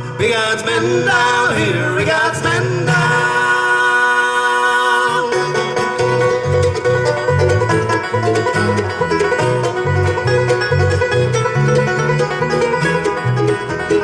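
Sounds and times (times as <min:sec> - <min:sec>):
bass notes: 0:00.0 - 0:04.0, 0:05.0 - 0:14.0
bluegrass band playing: 0:00.0 - 0:14.0
fast banjo picking: 0:00.0 - 0:14.0.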